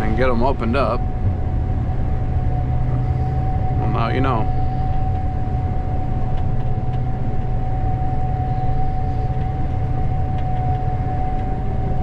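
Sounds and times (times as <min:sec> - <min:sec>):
combine harvester engine drone: 0:00.0 - 0:12.0
high whine: 0:00.0 - 0:12.0.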